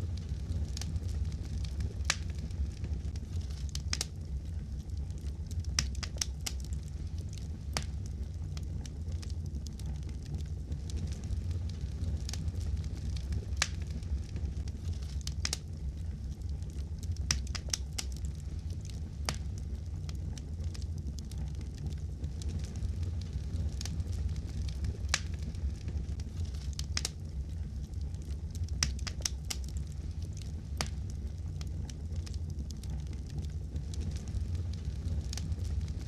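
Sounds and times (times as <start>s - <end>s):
low rumble of burning fire: 0.0s - 36.0s
sharp pops and snaps: 0.0s - 36.0s
wood fire crackling: 0.0s - 36.0s.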